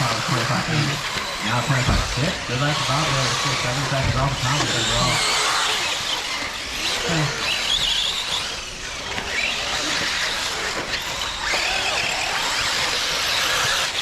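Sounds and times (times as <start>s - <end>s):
rc cars motors whining: 0.0s - 14.0s.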